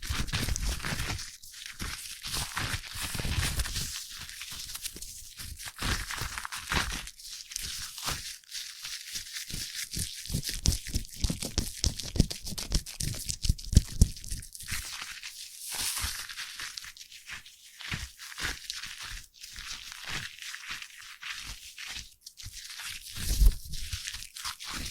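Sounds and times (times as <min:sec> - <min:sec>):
foam crackling and squishing: 0:00.0 - 0:24.9.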